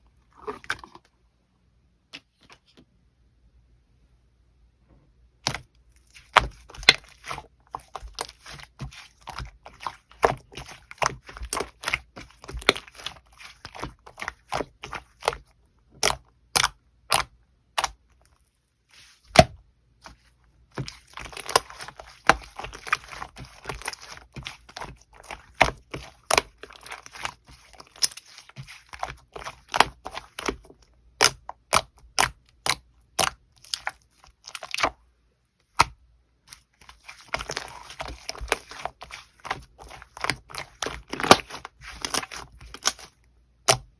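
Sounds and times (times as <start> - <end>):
slime crackling: 5.5 - 20.2, 20.8 - 34.9, 36.5 - 43.9.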